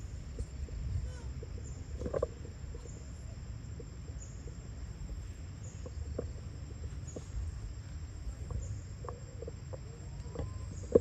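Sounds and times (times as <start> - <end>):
faint insect chirp: 0.0 - 11.0.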